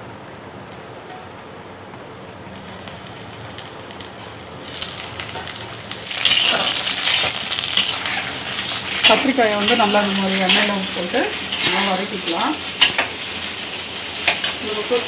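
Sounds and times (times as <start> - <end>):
eggplants sizzling in hot oil: 2.6 - 15.0.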